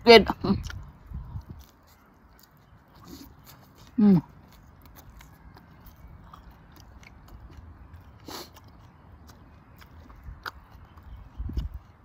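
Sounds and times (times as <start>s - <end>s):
person chewing: 0.6s - 12.0s.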